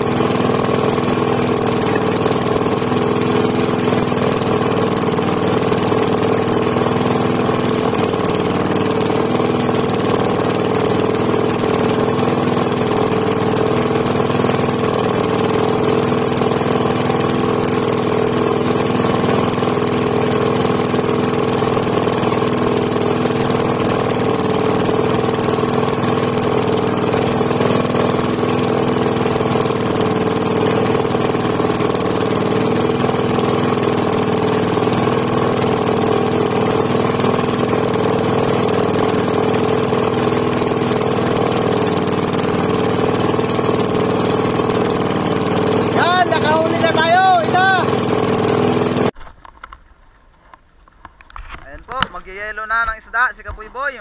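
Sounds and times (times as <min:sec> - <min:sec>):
boat engine running steadily: 0:00.0 - 0:49.2.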